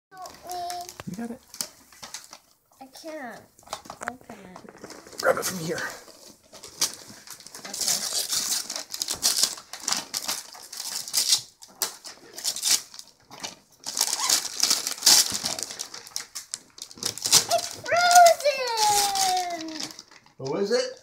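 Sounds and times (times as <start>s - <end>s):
wrapping paper ripping and crinkling: 0.2s - 2.6s, 3.6s - 20.9s.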